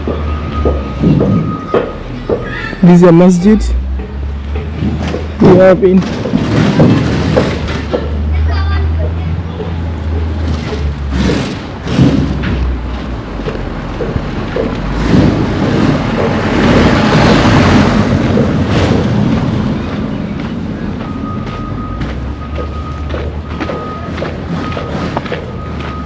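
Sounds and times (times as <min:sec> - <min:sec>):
vehicle passing by: 0:00.0 - 0:26.0.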